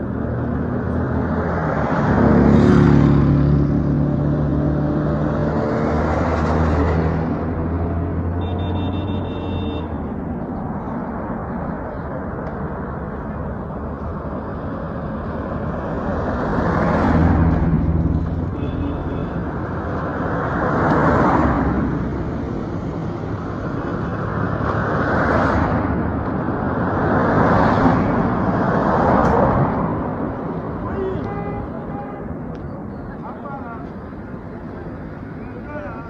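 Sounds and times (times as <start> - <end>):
street background noise: 0.0 - 36.0
vehicles passing close by: 0.0 - 36.0.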